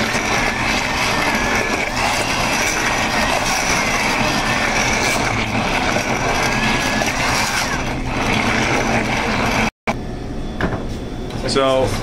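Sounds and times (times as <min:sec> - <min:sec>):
immersion blender whining: 0:00.0 - 0:09.8.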